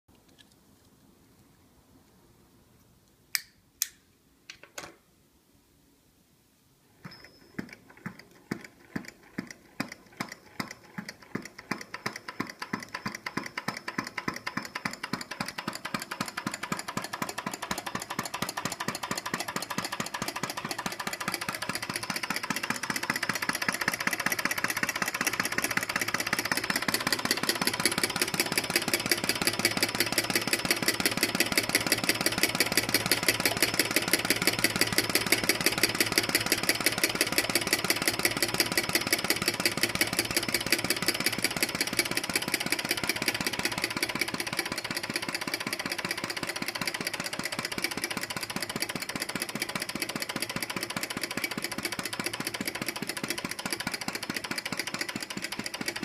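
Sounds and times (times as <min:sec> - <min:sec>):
model engine clattering: 0:07.0 - 0:56.0.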